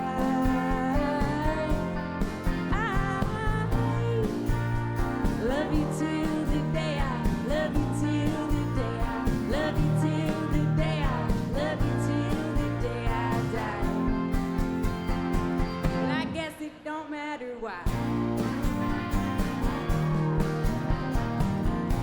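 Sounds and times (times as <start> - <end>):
live country-rock band playing: 0.0 - 16.4, 17.9 - 22.0
bending guitar lead line: 0.0 - 16.5, 17.9 - 22.0.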